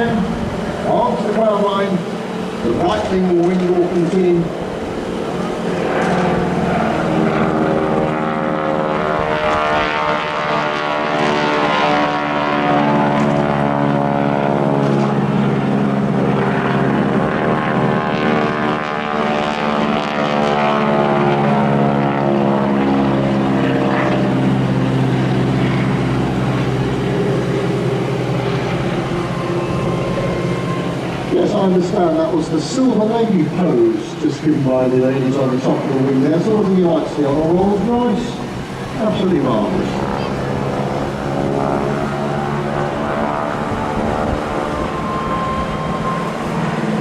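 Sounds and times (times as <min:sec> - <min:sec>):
biplane engines flying by: 0:00.0 - 0:47.0.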